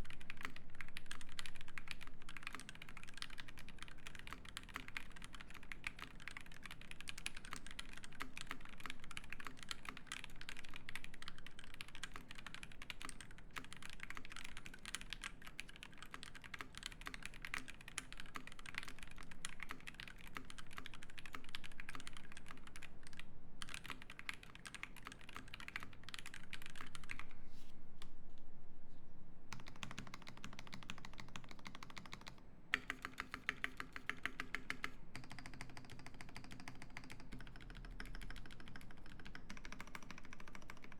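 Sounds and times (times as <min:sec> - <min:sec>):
typing on mechanical keyboard: 0:00.0 - 0:27.3, 0:29.5 - 0:40.9.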